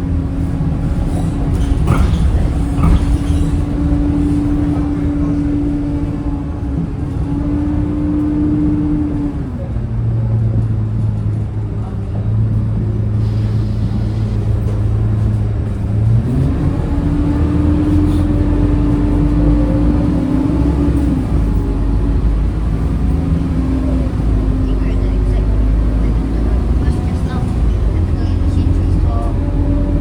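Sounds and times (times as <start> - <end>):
bus engine whine: 0.0 - 30.0.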